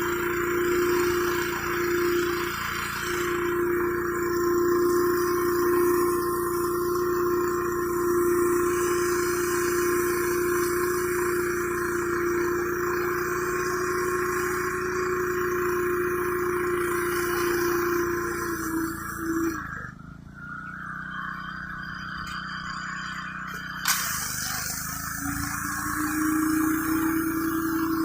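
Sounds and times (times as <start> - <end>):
high-pressure water spray hissing: 0.0 - 19.6, 23.8 - 28.0
pressure washer engine droning: 0.0 - 28.0.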